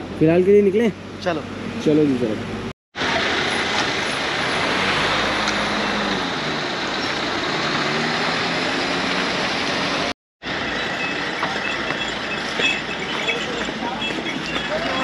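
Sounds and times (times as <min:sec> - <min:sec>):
steady rush of traffic noise: 0:00.0 - 0:15.0
vehicle engines running: 0:00.0 - 0:15.0.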